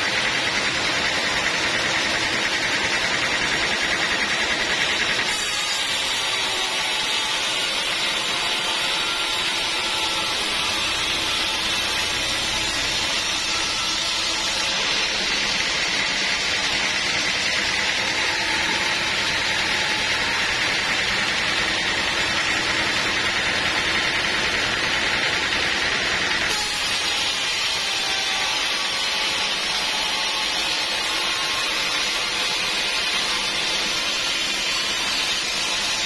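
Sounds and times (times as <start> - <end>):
sawmill saw running: 0.0 - 36.0.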